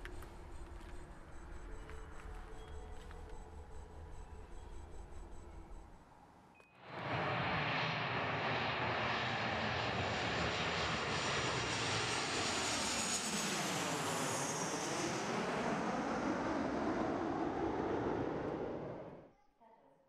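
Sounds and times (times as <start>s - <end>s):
airplane engines flying overhead: 0.0s - 5.8s, 6.5s - 19.3s.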